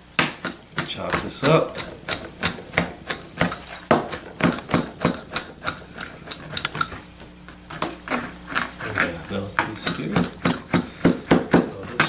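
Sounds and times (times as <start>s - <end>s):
knife chopping on plastic board: 0.0s - 7.0s, 7.6s - 12.0s.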